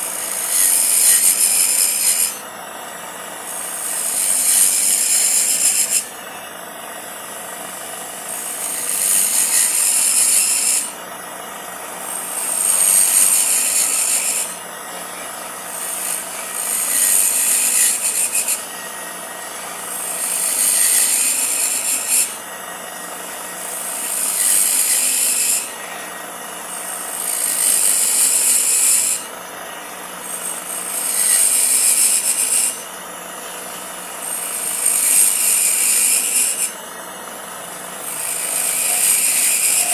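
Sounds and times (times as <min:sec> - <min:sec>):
tool cutting or sanding wood: 0:00.0 - 0:02.5, 0:03.4 - 0:06.2, 0:07.9 - 0:11.0, 0:11.8 - 0:22.5, 0:23.2 - 0:26.1, 0:26.7 - 0:29.4, 0:30.2 - 0:36.8, 0:38.0 - 0:39.9.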